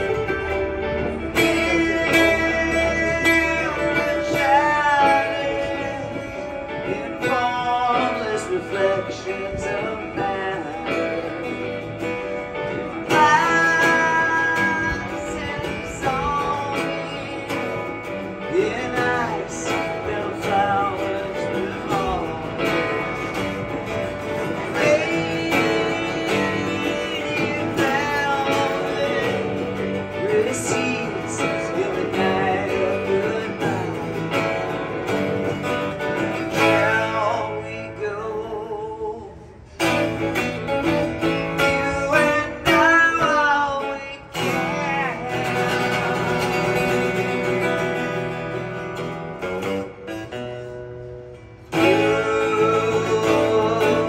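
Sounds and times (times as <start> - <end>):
person singing: 0.0 - 50.7, 51.6 - 54.0
acoustic guitar strumming: 0.0 - 54.0.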